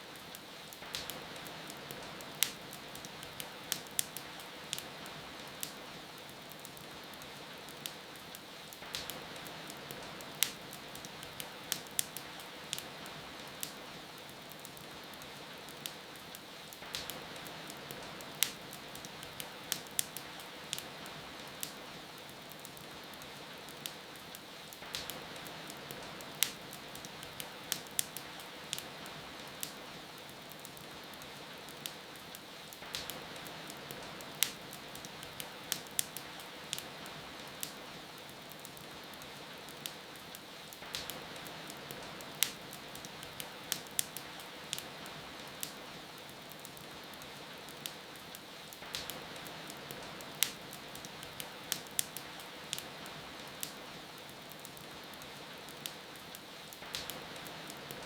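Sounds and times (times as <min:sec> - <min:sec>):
rain hiss: 0:00.0 - 0:58.0
wood fire crackling: 0:00.0 - 0:58.0.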